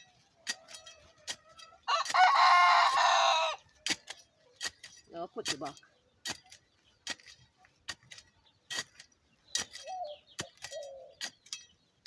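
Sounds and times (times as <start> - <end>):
metal digging tool striking soil: 0.0 - 12.0.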